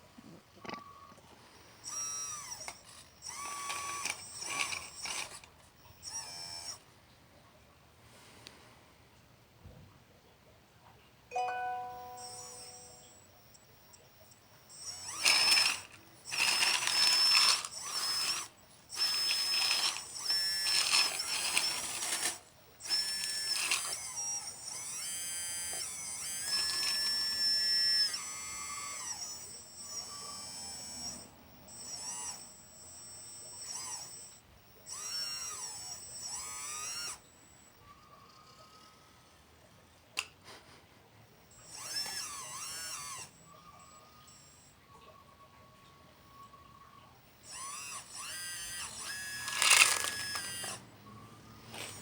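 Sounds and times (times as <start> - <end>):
electric motors whining: 0.0 - 7.0, 11.4 - 52.0
rattly motor bursts: 0.6 - 6.9, 12.2 - 44.8, 47.3 - 52.0.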